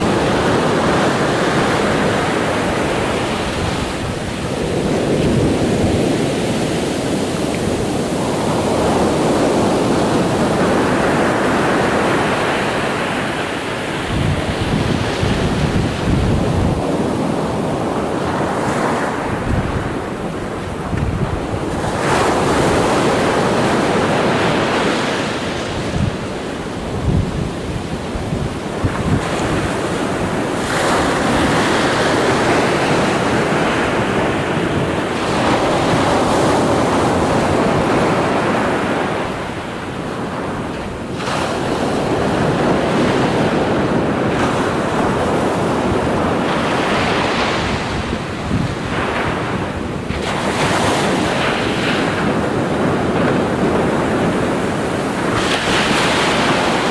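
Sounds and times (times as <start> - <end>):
ocean waves breaking: 0.0 - 56.9
wind rumbling on microphone: 0.0 - 56.9.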